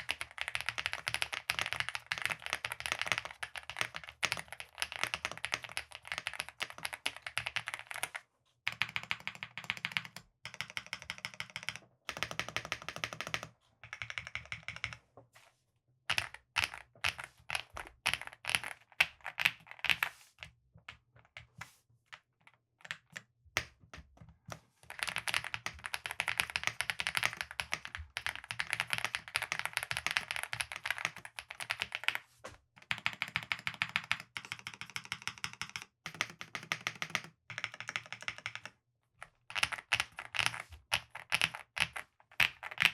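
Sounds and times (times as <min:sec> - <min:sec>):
mechanical keyboard typing: 0:00.0 - 0:15.0, 0:16.1 - 0:20.1, 0:24.9 - 0:32.2, 0:32.8 - 0:42.9.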